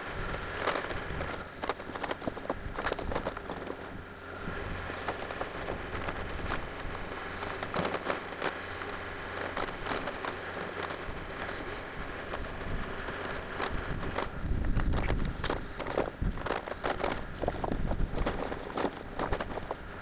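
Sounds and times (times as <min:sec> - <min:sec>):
excavator engine running: 0:00.0 - 0:20.0
logs cracking and clattering: 0:00.4 - 0:20.0.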